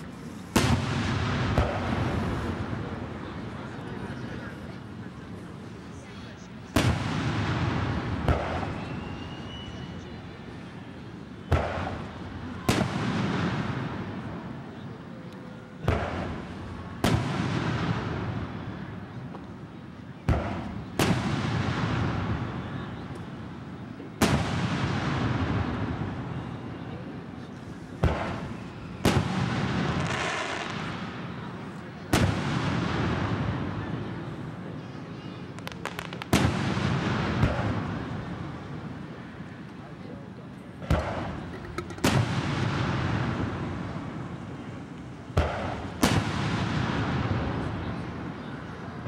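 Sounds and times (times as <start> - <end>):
fireworks bursting with echo: 0.0 - 49.0.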